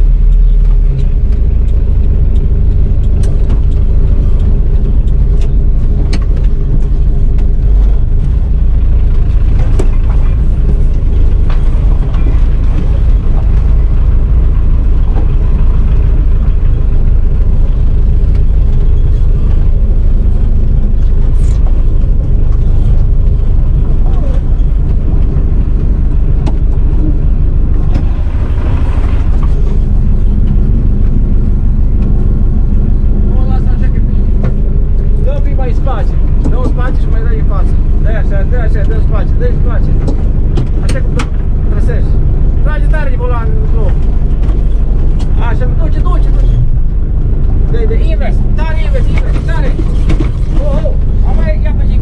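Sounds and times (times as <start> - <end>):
van engine running: 0.0 - 52.0.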